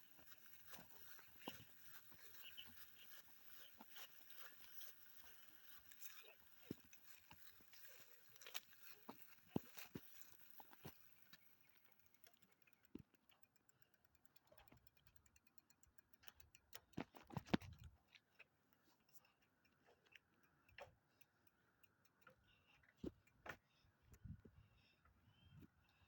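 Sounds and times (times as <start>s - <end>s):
faint ticks and clicks: 0.0s - 26.0s.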